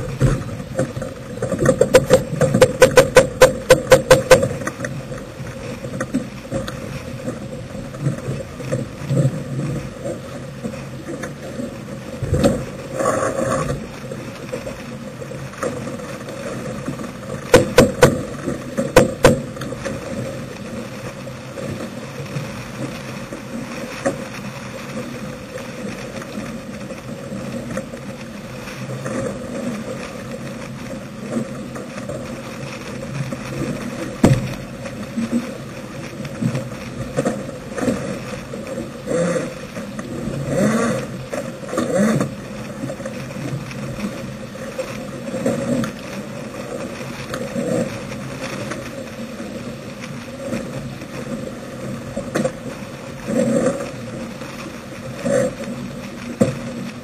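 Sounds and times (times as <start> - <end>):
water rushing past hull: 0.0 - 57.0.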